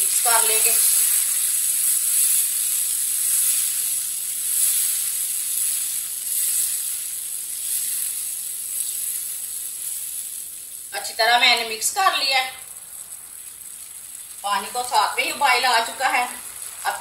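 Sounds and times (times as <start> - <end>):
curry sizzling in a frying pan: 0.0 - 17.0.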